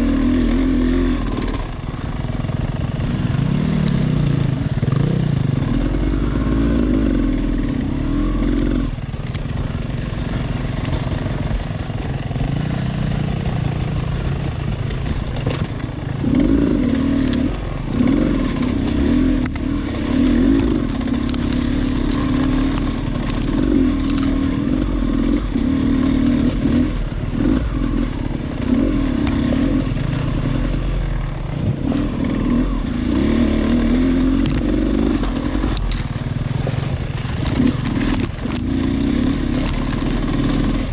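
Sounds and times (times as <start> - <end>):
dirt bike engine revving: 0.0 - 40.9
knocks and clatter of bike: 0.0 - 40.9.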